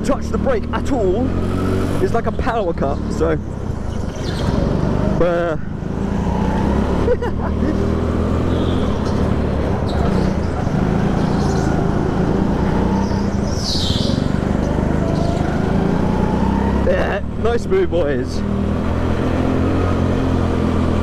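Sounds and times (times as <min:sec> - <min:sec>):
go-kart engine droning: 0:00.0 - 0:21.0.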